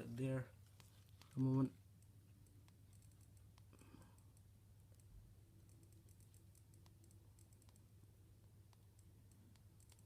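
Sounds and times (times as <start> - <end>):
faint low hum: 0.0 - 10.0
faint ticks and clicks: 0.0 - 10.0.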